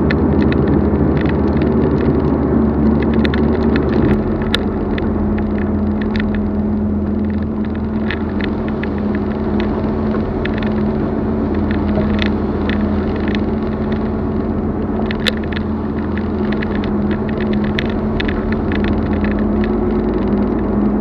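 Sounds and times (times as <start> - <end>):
light rattling clicks: 0.0 - 21.0
vehicle engine running steadily: 0.0 - 21.0.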